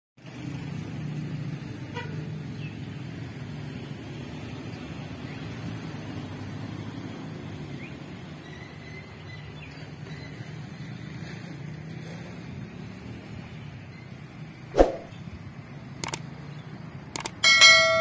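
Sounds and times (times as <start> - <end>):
passing traffic engine rumble: 0.2 - 18.0.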